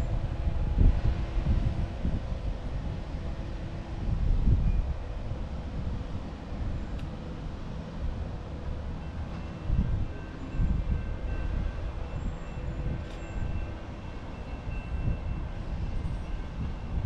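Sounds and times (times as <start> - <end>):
distant train rumble: 0.0 - 17.0
wind gusting on microphone: 0.0 - 17.0.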